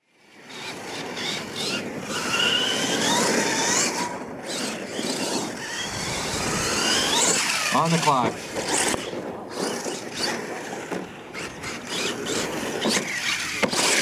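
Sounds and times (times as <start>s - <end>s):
toy truck drivetrain whining: 0.1s - 14.0s
tyres on dirt: 0.5s - 14.0s.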